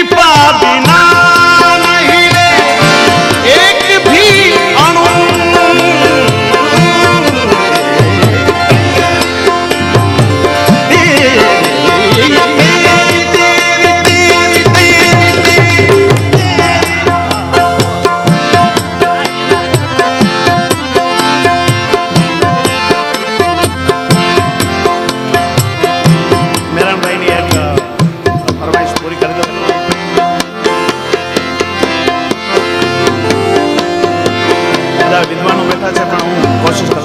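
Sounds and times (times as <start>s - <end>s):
tabla playing fast rhythm: 0.0s - 37.0s.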